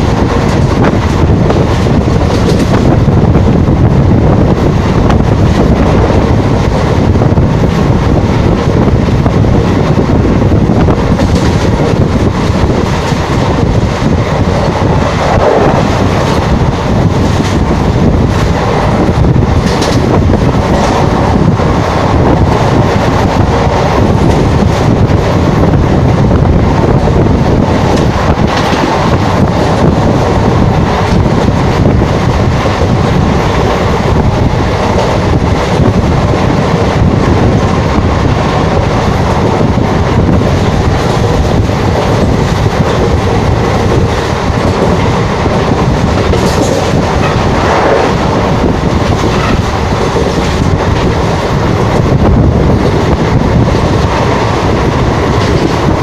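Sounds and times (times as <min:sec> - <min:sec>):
train wheels rumbling on rail: 0:00.0 - 0:56.0
wind rushing: 0:00.0 - 0:56.0.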